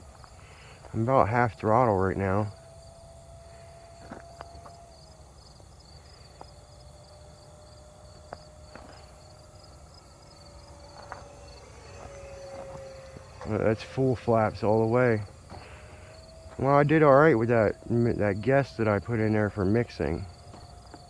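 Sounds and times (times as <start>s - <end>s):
crickets chirping: 0.0s - 21.0s
electric ducted fan whine: 0.0s - 21.0s.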